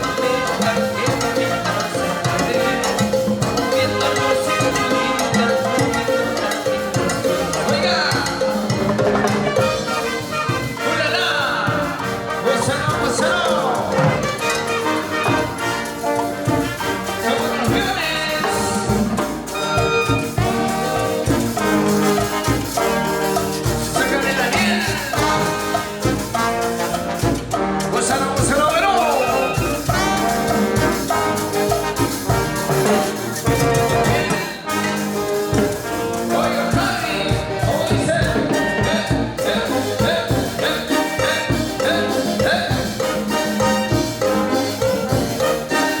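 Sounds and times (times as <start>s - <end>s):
brass band playing cumbia: 0.0s - 46.0s.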